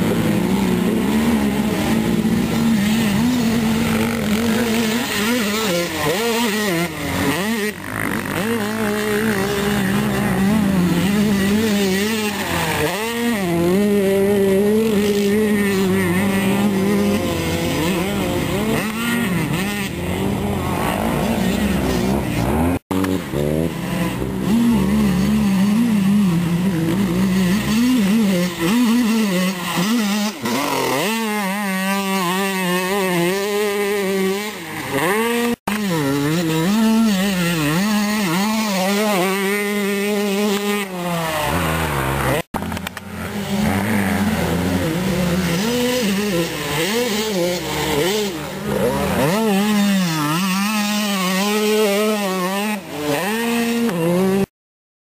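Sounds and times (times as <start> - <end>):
dirt bike engines revving: 0.0 - 54.5.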